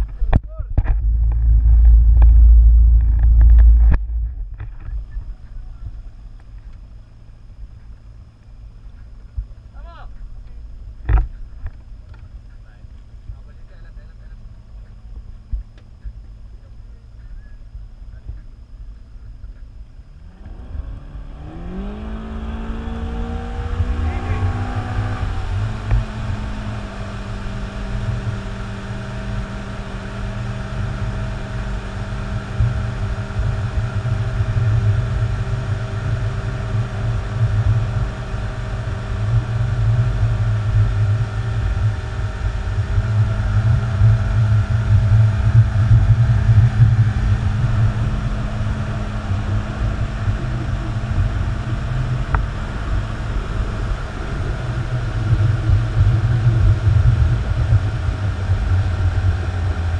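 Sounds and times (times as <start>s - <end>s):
motorboat engine droning: 0.0s - 59.9s.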